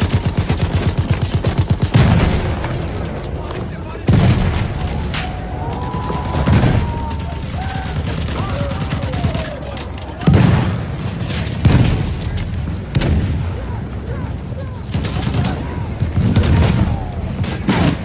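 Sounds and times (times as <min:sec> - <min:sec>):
rifle and machine-gun fire: 0:00.0 - 0:13.6, 0:14.8 - 0:18.0
heavy blasts: 0:00.0 - 0:18.0.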